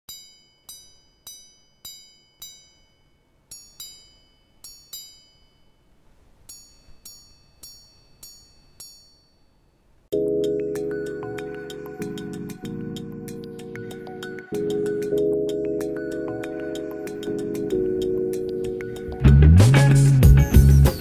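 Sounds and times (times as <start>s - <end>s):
small gongs chiming: 0.1s - 19.3s.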